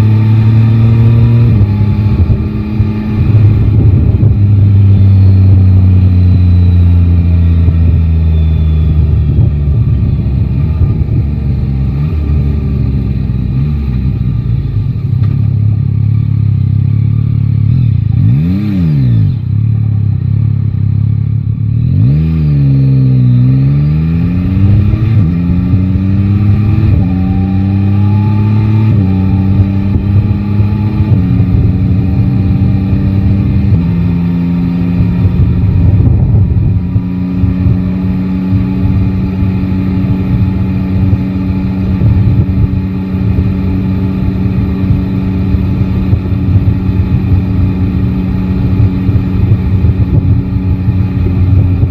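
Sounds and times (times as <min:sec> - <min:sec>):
motorcycle engine revving and upshifting: 0:00.0 - 0:51.9.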